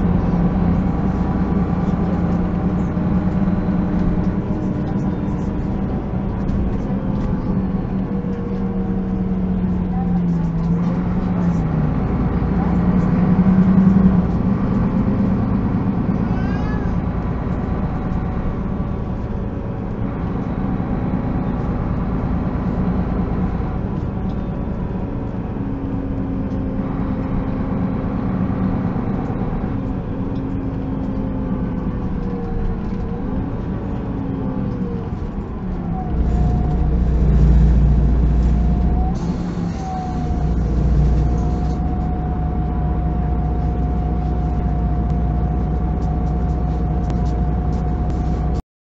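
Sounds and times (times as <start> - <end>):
bus engine running: 0.0 - 48.6
deep rumble: 0.0 - 48.6
gliding drivetrain whine: 0.0 - 48.6.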